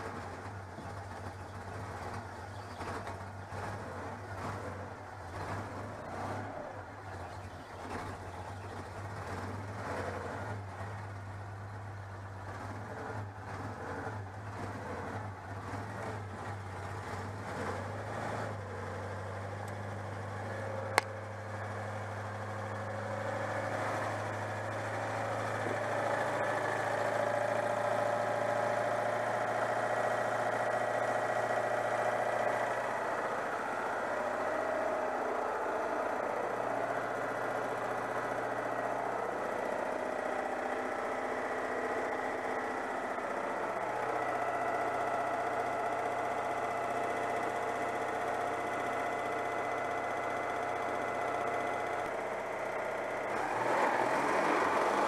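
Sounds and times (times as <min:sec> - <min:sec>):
air-cooled engine running: 0:00.0 - 0:55.0.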